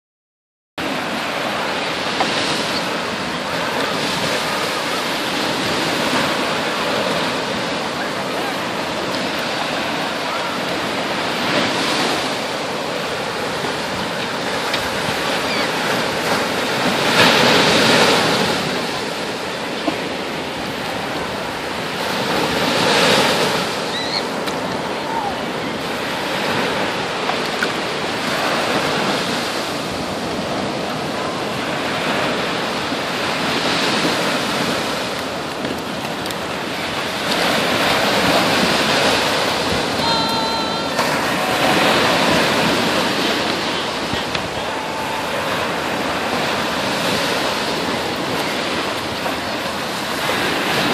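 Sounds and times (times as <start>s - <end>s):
ocean surf breaking on beach: 0.8s - 50.9s.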